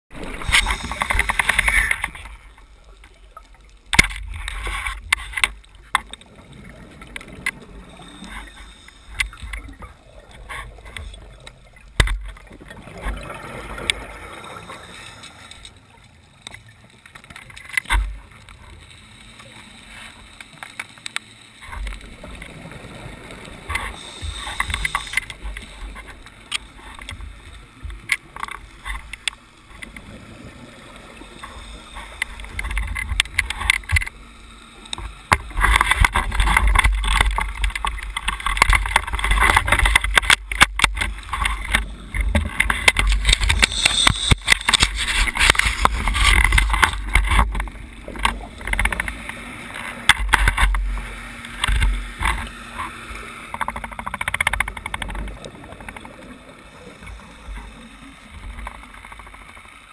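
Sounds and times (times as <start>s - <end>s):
muffled underwater rumble: 0.1s - 20.7s, 21.6s - 59.9s.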